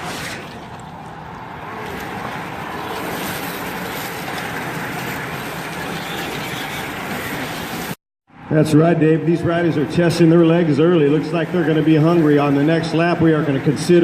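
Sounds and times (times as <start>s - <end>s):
bicycle tyres humming on pavement: 0.1s - 8.0s, 9.4s - 14.0s.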